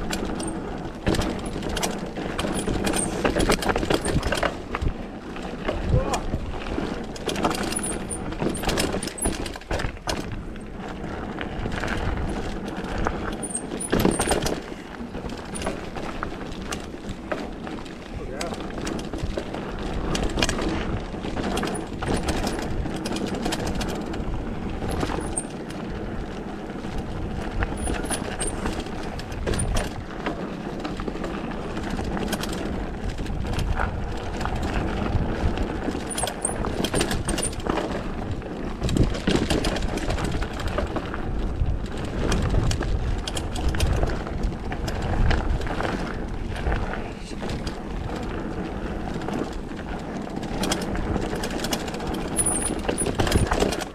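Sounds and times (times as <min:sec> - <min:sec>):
bike rattling over bumps: 0:00.0 - 0:53.9
bike tyres on trail: 0:00.0 - 0:53.9.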